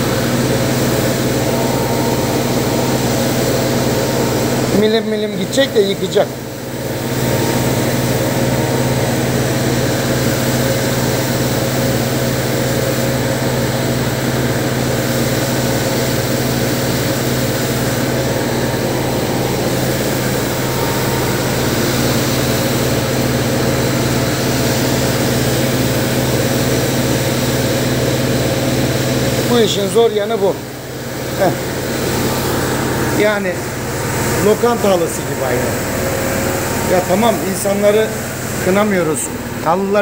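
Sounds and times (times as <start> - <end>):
carpet washing machine humming: 0.0 - 40.0.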